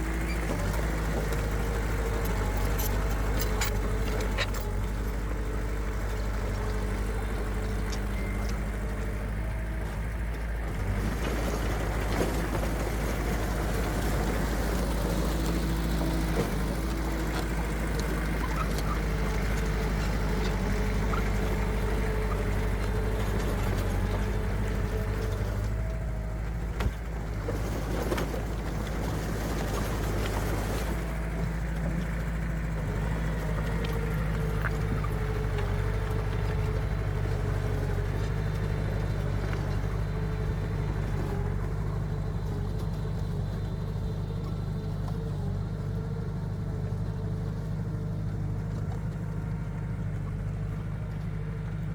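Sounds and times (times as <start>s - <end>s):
heavy machine diesel engines humming: 0.0s - 51.9s.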